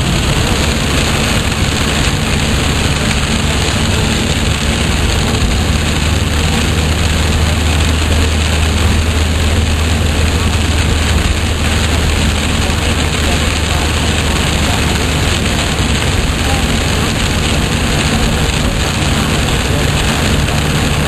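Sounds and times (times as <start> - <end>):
heavy rain drumming on a car: 0.0 - 21.0
low engine and road drone: 0.0 - 21.0.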